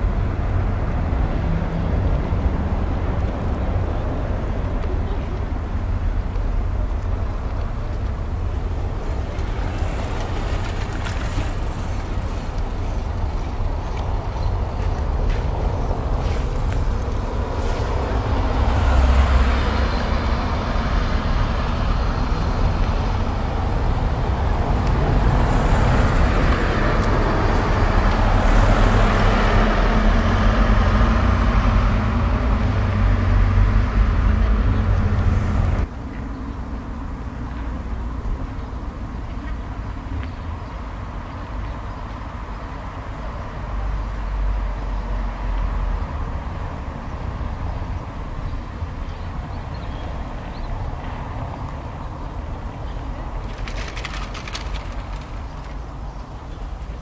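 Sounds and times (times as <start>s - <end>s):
road traffic drone: 0.0s - 57.0s.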